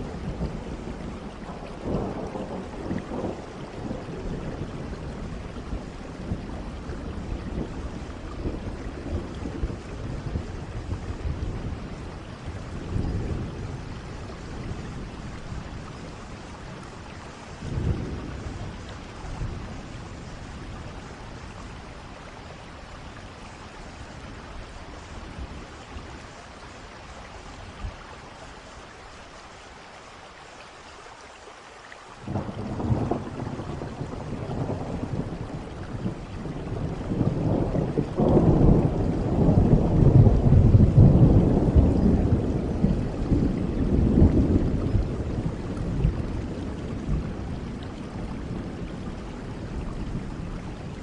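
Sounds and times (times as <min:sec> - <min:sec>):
thunder rumbling: 0:00.0 - 0:22.5, 0:32.2 - 0:51.0
steady rain: 0:00.0 - 0:51.0.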